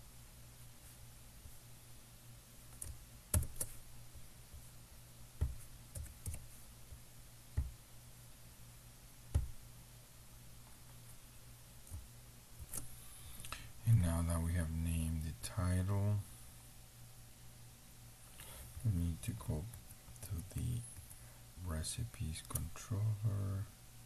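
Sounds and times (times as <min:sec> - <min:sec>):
faint steady low hum: 0:00.0 - 0:24.0.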